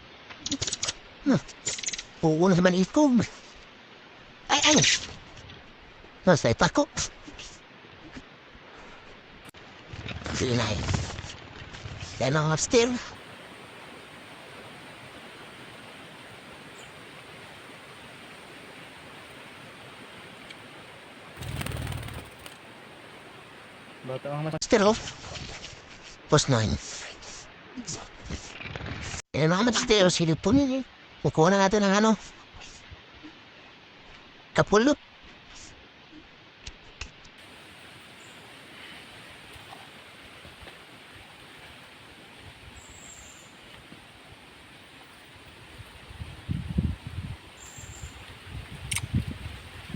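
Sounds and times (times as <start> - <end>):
outdoor background hiss: 0.0 - 28.4, 29.4 - 49.9.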